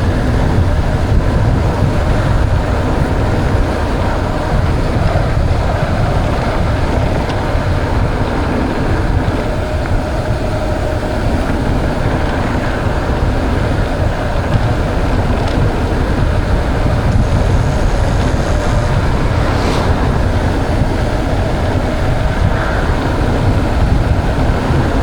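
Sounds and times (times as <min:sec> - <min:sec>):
bike tyres rumbling on trail: 0:00.0 - 0:25.0
wind buffeting microphone: 0:00.0 - 0:25.0.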